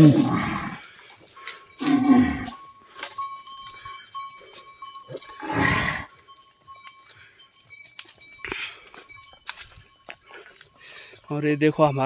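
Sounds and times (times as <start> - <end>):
faint steady ringing tone: 0.2 - 12.0.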